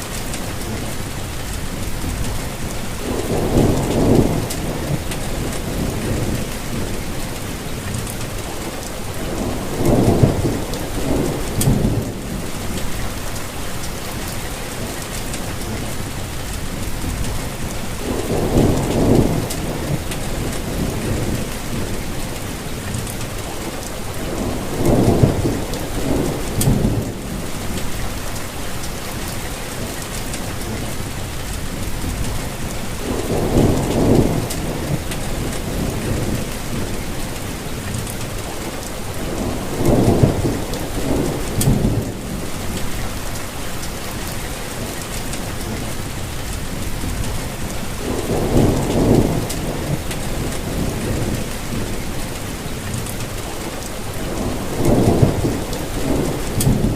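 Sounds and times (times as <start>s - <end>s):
rainfall patter: 0.0s - 56.9s.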